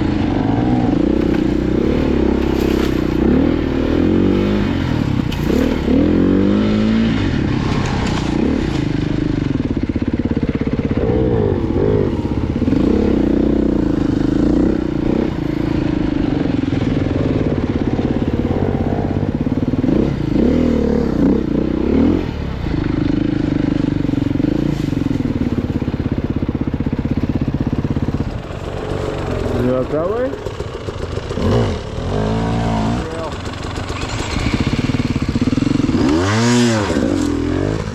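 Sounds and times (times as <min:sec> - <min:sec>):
off-road motorcycle engine revving: 0:00.0 - 0:37.9.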